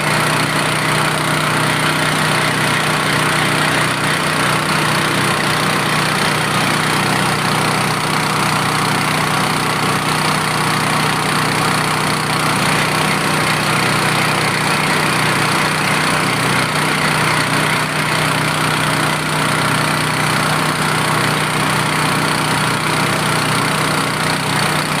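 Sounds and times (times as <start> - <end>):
drilling rig engine running: 0.0 - 25.0.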